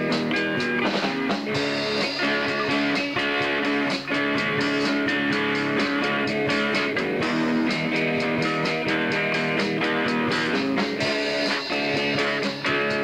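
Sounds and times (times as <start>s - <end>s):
drum kit with cymbals: 0.0s - 13.0s
electric guitars playing chords: 0.0s - 13.0s.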